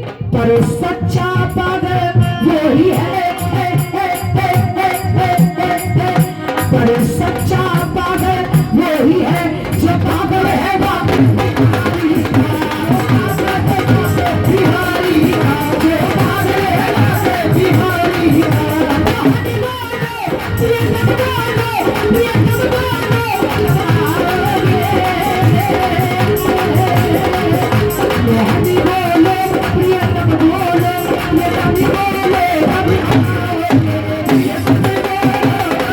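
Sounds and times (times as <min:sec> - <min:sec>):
devotional singing: 0:00.0 - 0:35.9
drums and hand percussion: 0:00.0 - 0:35.9.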